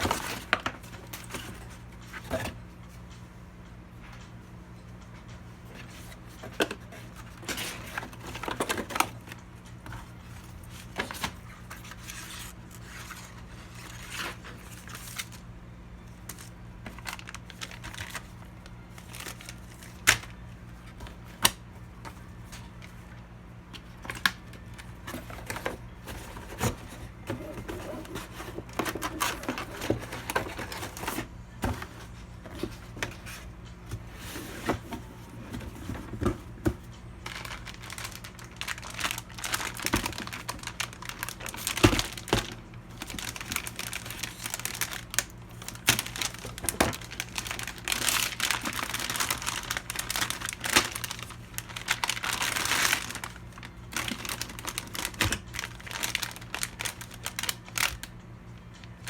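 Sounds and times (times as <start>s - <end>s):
packaging crinkling: 0.0s - 2.6s, 5.7s - 15.5s, 16.1s - 58.2s.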